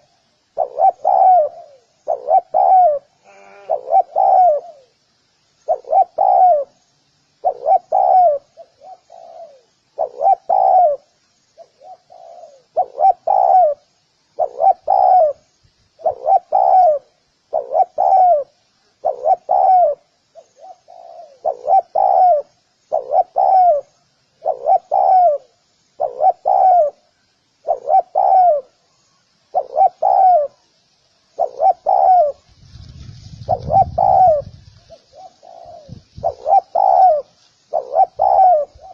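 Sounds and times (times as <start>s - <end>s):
dove cooing: 0.0s - 5.0s, 5.6s - 6.8s, 7.4s - 30.7s, 31.3s - 38.9s.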